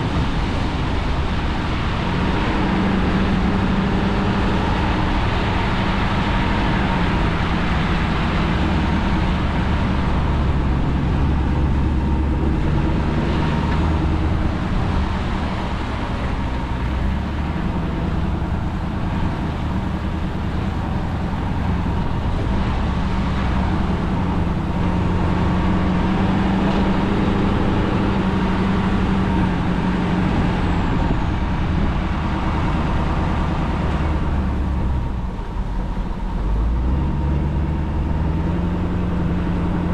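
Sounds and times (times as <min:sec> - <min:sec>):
road noise: 0:00.0 - 0:39.9
truck engine hum: 0:00.0 - 0:39.9.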